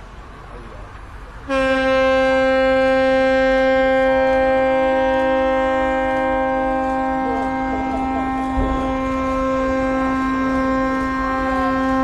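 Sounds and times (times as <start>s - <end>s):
ship's horn blowing: 1.4s - 12.0s.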